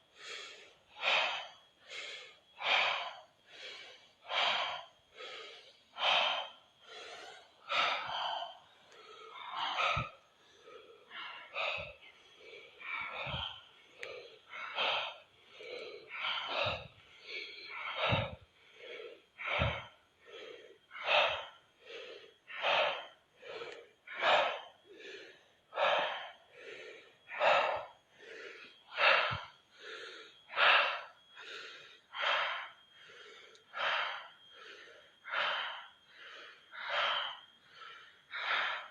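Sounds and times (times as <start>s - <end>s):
deep forceful breathing: 0.0s - 38.9s.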